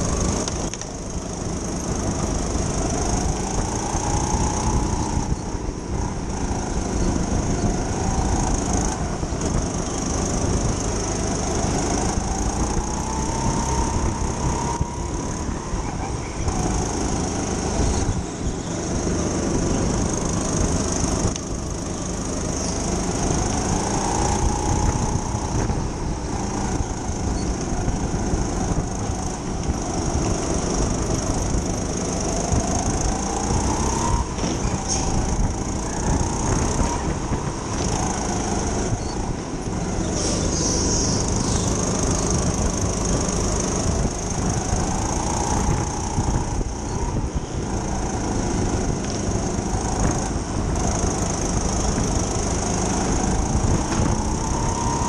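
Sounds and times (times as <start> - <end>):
kart motor running: 0.0 - 55.0.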